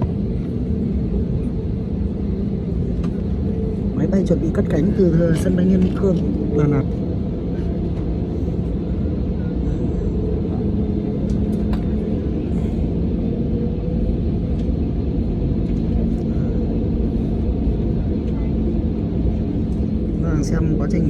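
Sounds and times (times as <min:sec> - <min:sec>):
airliner cabin drone: 0:00.0 - 0:21.0.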